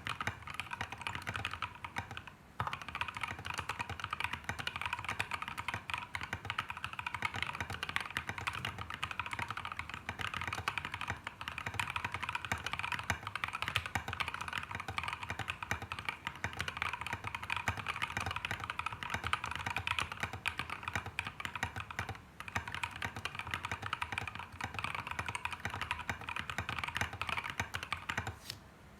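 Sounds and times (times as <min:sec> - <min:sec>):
fast mechanical keyboard typing: 0:00.0 - 0:28.4.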